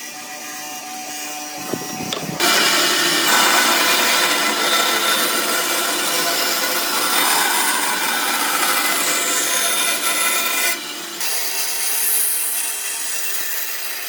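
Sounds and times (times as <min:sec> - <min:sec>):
tool rasping wood: 0:01.6 - 0:14.0.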